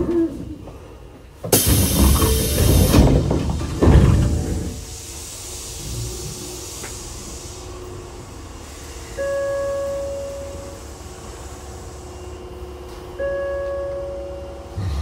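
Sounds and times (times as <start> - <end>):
train car hum: 0.0 - 15.0.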